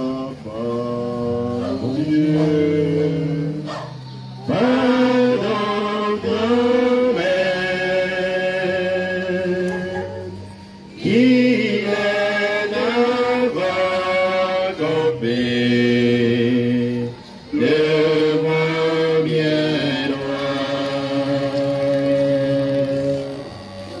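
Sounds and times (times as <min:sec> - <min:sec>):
choir and congregation singing a hymn: 0:00.0 - 0:23.8.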